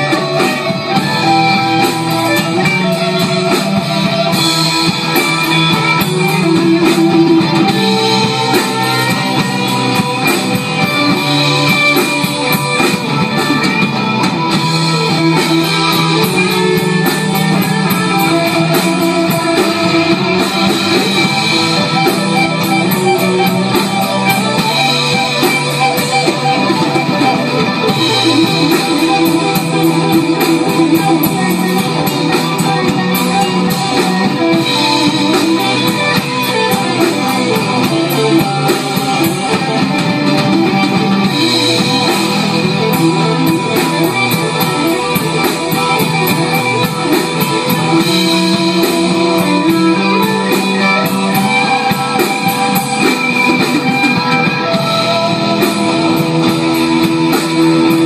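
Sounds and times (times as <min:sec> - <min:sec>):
bass guitar: 0:00.0 - 0:58.0
drum kit: 0:00.0 - 0:58.0
electric guitar playing: 0:00.0 - 0:58.0.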